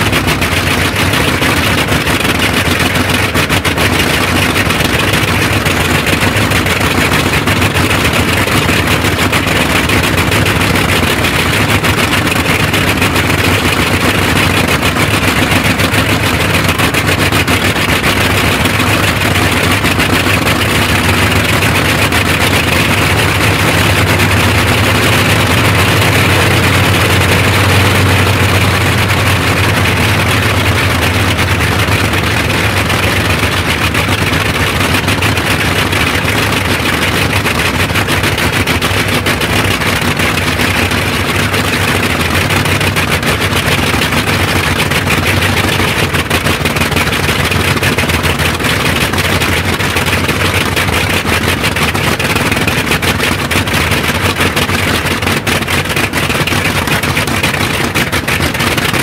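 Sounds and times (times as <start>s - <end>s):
radial engine running: 0.0s - 59.0s.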